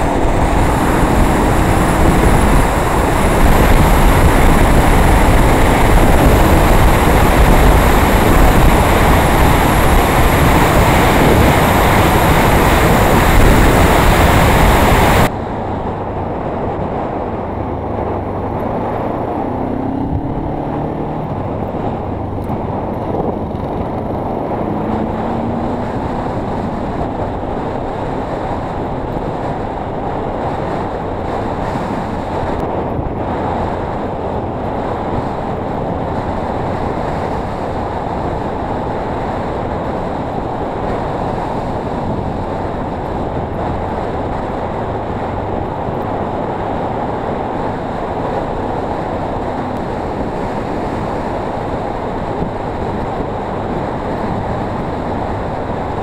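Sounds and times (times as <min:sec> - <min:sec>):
motorcycle engine: 0:00.0 - 0:56.0
wind on microphone: 0:00.0 - 0:56.0.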